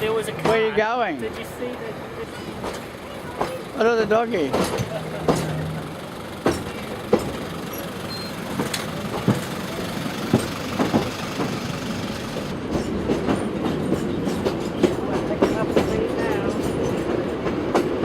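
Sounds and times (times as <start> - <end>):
train carriage rumbling and rattling: 0.0 - 18.0
wheels clicking over rail joints: 0.0 - 18.0.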